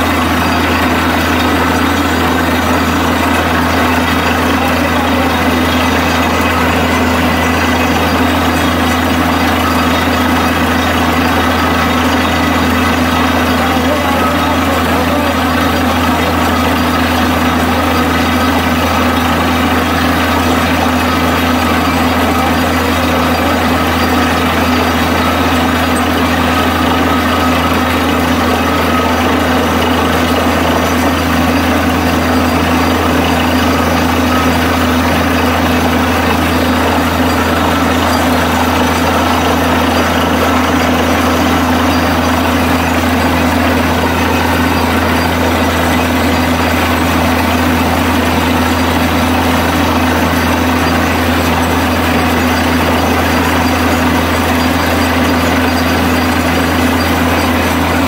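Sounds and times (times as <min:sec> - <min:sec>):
drilling rig engine humming: 0:00.0 - 0:58.0.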